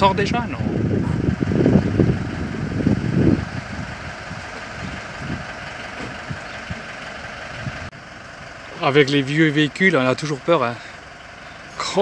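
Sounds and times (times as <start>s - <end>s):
motorhome engine running: 0.0s - 12.0s.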